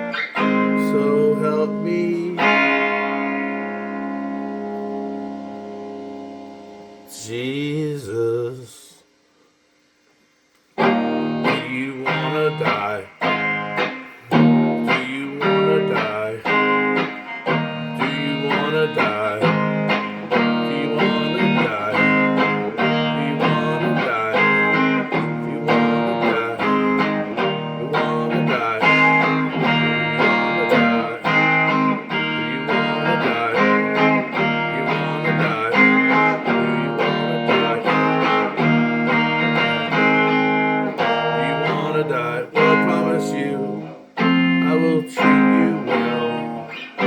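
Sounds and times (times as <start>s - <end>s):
instrumental guitar music: 0.0s - 7.6s, 10.5s - 47.0s.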